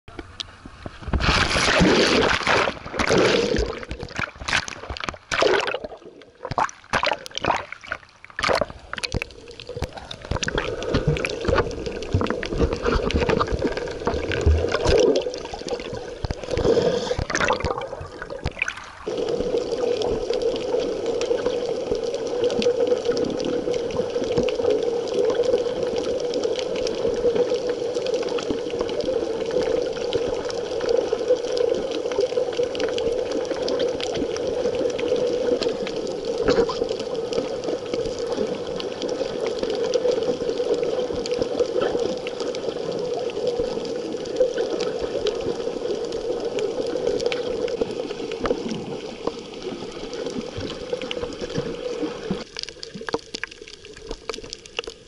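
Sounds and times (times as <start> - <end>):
water splashing: 0.2 - 55.0
muffled underwater hiss: 8.6 - 55.0.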